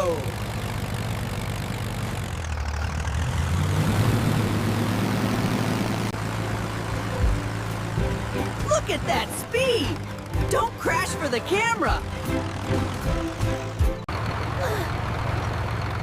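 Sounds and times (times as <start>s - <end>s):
tractor engines at full throttle: 0.0s - 16.0s.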